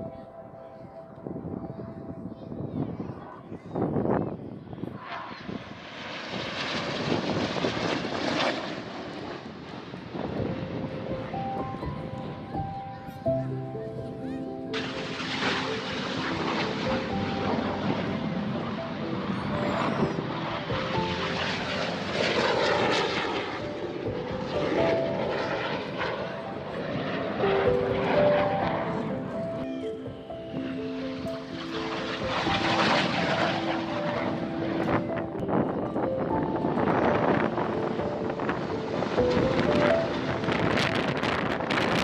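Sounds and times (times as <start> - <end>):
jet aircraft passing overhead: 0.0 - 42.0.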